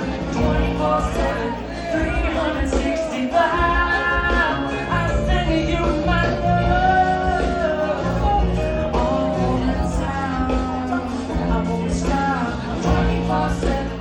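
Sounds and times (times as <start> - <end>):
live band music: 0.0 - 14.0
steady bass line: 0.0 - 14.0.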